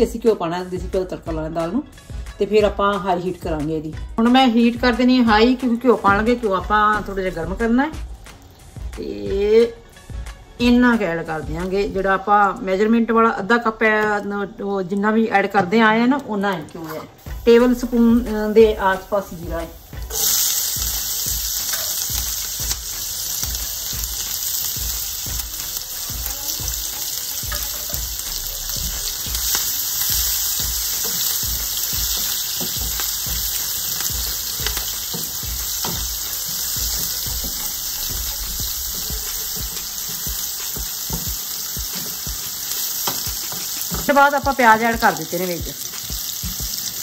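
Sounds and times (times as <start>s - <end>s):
garlic and chillies sizzling: 0.0s - 47.0s.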